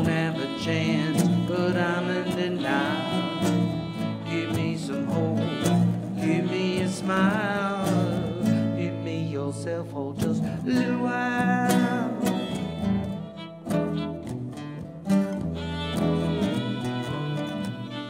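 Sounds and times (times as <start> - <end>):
bowed fiddle with vibrato: 0.0 - 9.3, 11.7 - 18.0
acoustic guitar strumming: 0.0 - 18.0.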